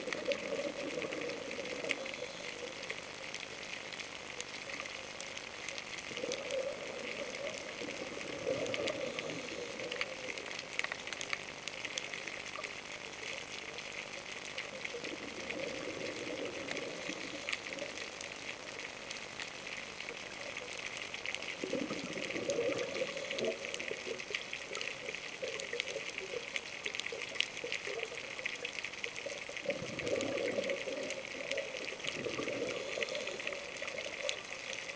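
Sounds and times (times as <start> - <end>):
steady crackling hiss: 0.0 - 34.9
underwater bubbles gurgling: 0.0 - 34.9.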